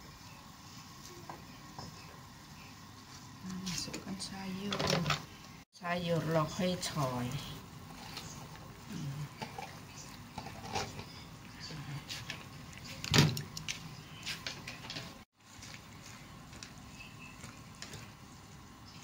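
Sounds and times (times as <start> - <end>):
pot simmering with low hiss: 0.0 - 19.0.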